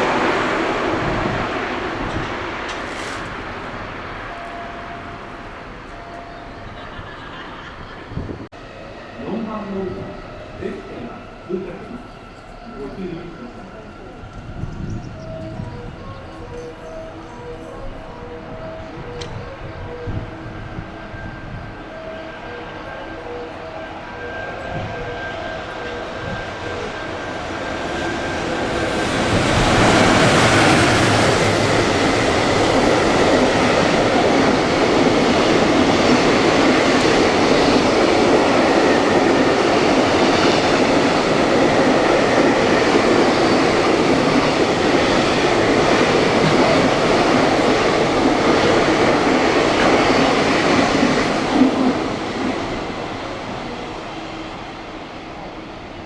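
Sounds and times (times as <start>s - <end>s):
train rumble and wheel clatter: 0.0s - 56.0s.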